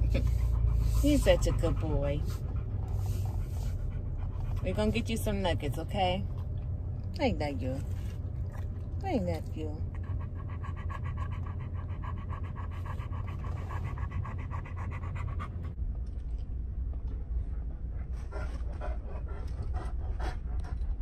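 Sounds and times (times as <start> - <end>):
dog panting: 0.0 - 6.7, 7.4 - 15.8, 17.3 - 21.0
steady low rumble: 0.0 - 21.0.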